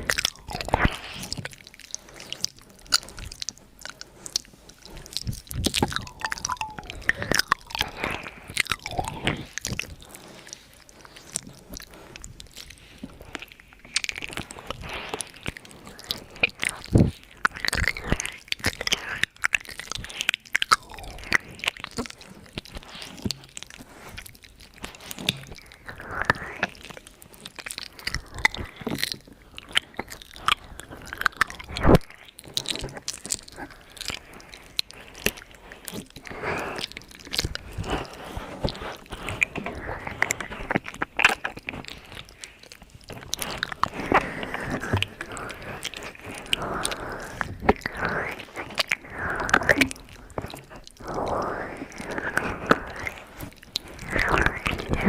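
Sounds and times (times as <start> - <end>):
mouth clicks and smacks: 0.0 - 55.0.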